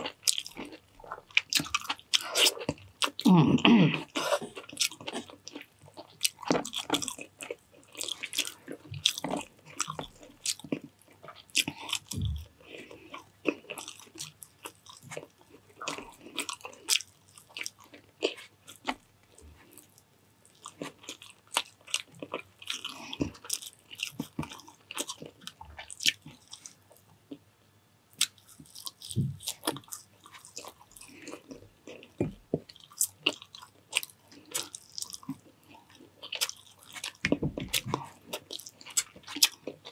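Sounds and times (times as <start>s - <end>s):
person chewing crunchy food: 0.0s - 27.4s, 28.1s - 39.9s.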